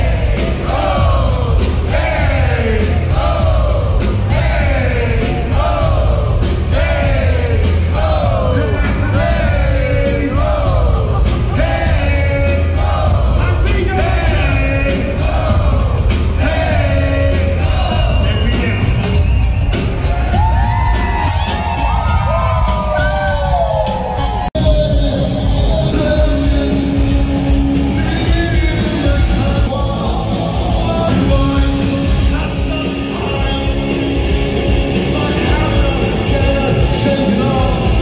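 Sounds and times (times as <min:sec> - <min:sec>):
crowd singing and whooping: 0:00.0 - 0:38.0
loud live music with bass beat: 0:00.0 - 0:38.0.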